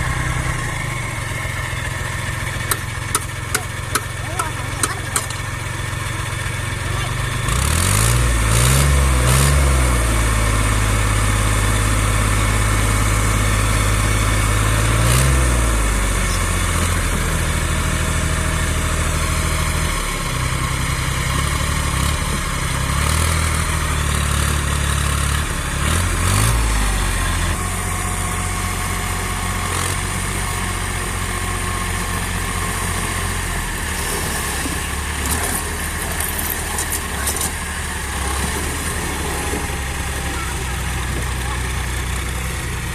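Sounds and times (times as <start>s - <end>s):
heavy diesel engine revving: 0.0s - 42.9s.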